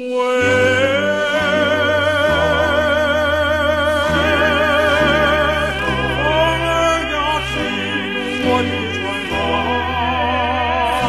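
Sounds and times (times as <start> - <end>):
person singing with vibrato: 0.0 - 11.0
low accompaniment chords: 0.4 - 11.0.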